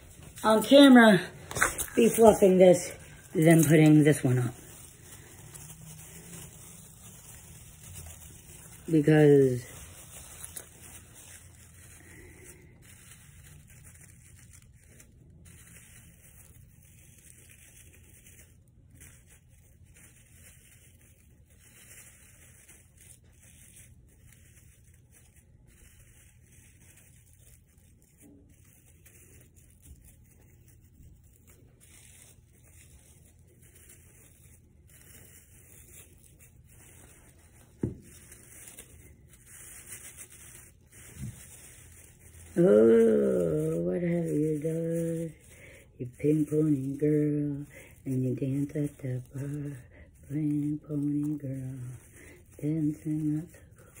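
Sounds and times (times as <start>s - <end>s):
rustling of artificial tree branches: 0.0s - 54.0s.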